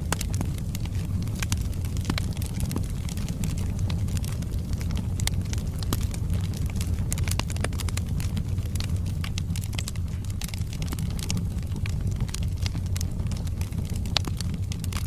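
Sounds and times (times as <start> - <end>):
flames rumbling: 0.0 - 15.0
logs crackling and popping: 0.0 - 15.0.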